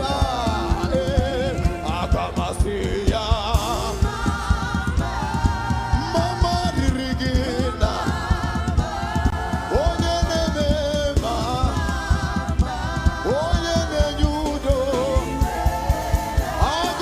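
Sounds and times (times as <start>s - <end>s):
gospel singing with band: 0.0s - 17.0s.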